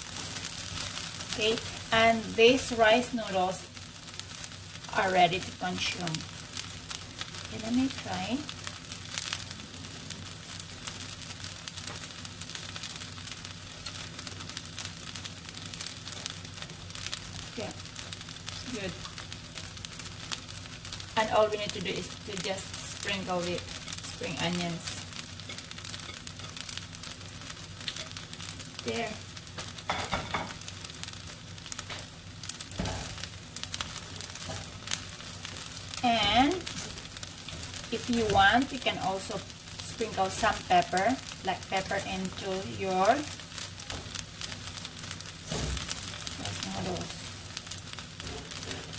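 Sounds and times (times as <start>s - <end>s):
noodles sizzling in a pan: 0.0s - 48.9s
steady low hum: 0.0s - 48.9s
stirring and tossing in a pan: 0.0s - 48.9s.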